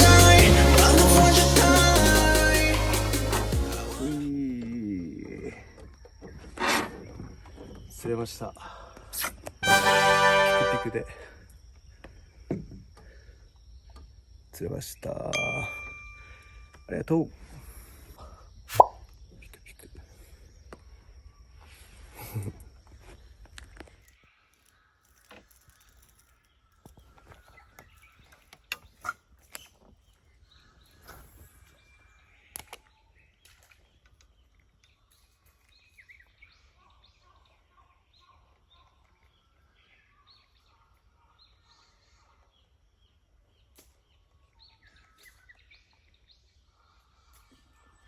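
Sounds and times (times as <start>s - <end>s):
wild birds chirping: 0.0s - 9.6s, 11.2s - 48.0s
outdoor background noise: 0.0s - 48.0s.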